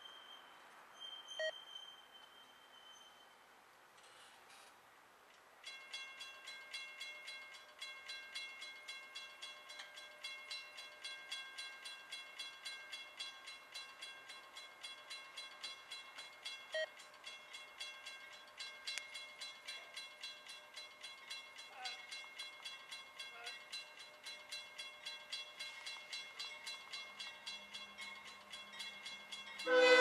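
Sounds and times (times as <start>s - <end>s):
railroad crossing bell ringing: 5.6s - 30.0s.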